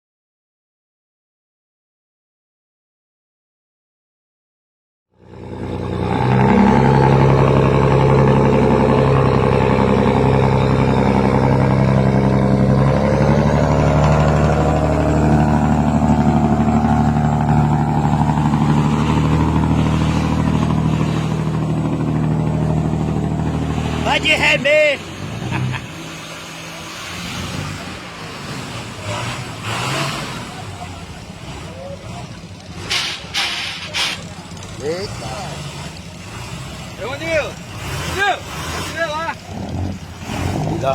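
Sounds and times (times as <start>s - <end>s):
boat diesel engine droning: 5.2s - 40.9s.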